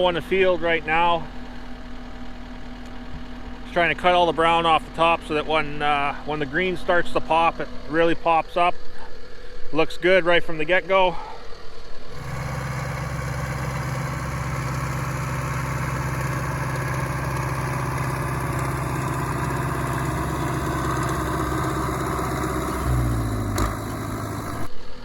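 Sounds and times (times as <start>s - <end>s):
diesel engine running: 0.0s - 8.5s, 12.0s - 24.7s.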